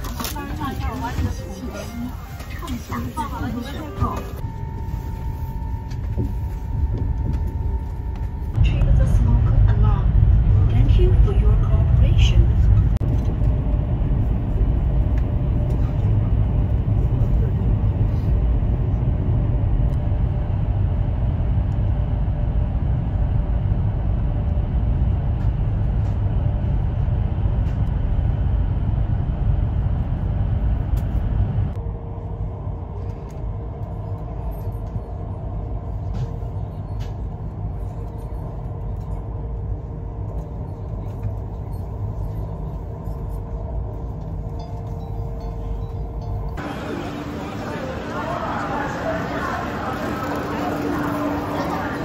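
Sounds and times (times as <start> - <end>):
train ride rumble: 0.0 - 52.0.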